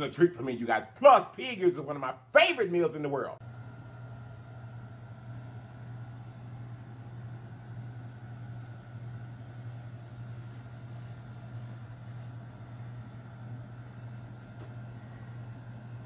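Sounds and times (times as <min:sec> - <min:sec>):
machine hum with faint hiss: 0:00.0 - 0:16.0.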